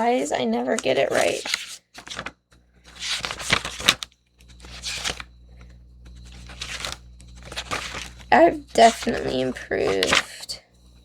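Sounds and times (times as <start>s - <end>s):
paper rustling: 0.7s - 10.6s.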